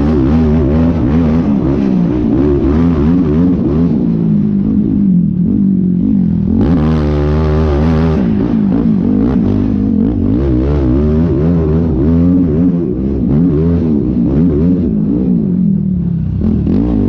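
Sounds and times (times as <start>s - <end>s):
quad engine revving: 0.0s - 17.0s.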